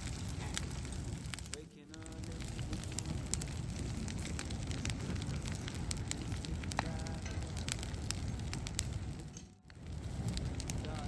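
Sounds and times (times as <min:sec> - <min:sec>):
fire crackling and popping: 0:00.0 - 0:11.0
low rumble of flames: 0:00.0 - 0:11.0.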